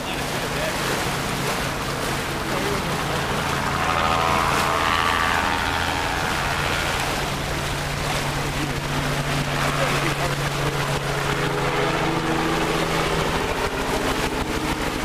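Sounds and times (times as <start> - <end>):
water rushing along a hull: 0.0 - 15.0.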